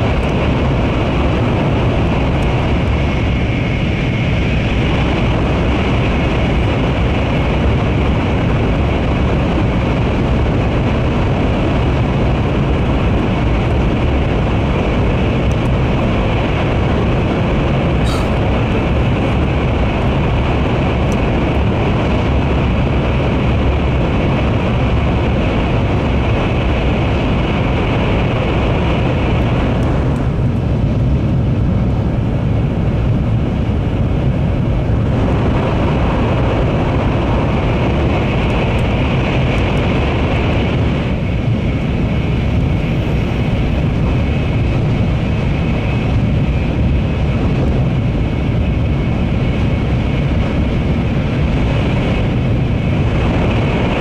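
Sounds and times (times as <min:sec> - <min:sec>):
train rumble in tunnel: 0:00.0 - 0:54.0.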